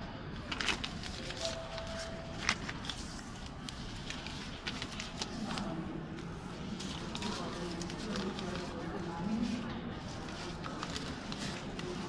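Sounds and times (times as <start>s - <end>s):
banknotes rustling: 0.4s - 12.0s.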